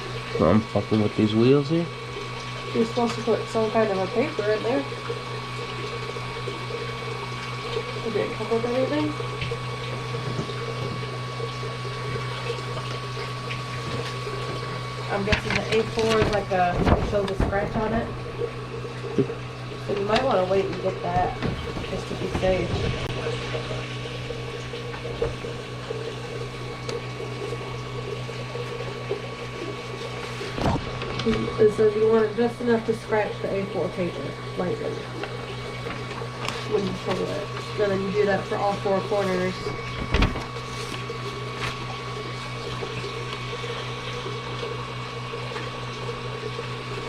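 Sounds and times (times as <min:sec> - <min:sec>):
small motor humming: 0:00.0 - 0:47.0.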